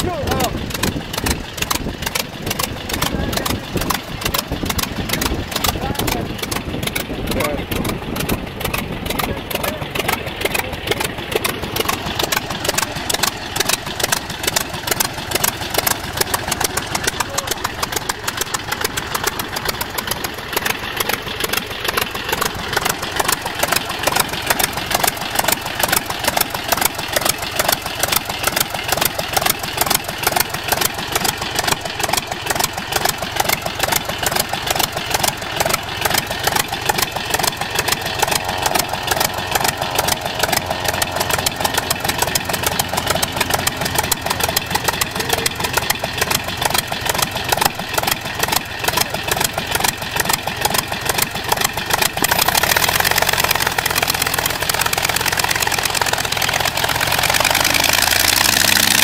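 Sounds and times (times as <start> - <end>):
radial aircraft engine idling: 0.0 - 59.0.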